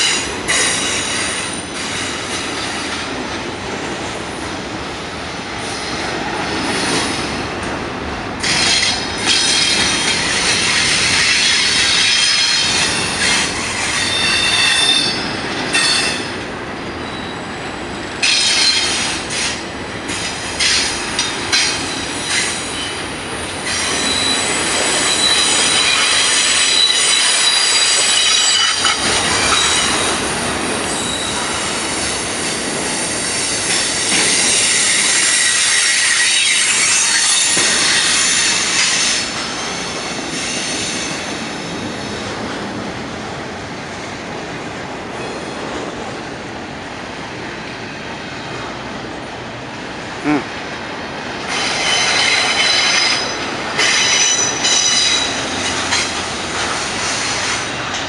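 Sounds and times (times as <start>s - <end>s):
train wheels squealing on rail: 0.0s - 3.2s, 5.6s - 7.4s, 8.4s - 42.4s, 45.2s - 46.0s, 47.5s - 48.8s, 51.4s - 58.0s
rumble of passing train cars: 0.0s - 58.0s.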